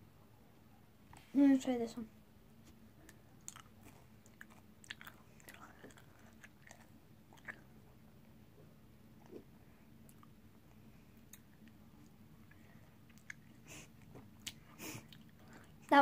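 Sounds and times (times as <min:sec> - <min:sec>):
faint chewing with wet clicks: 0:03.0 - 0:16.0.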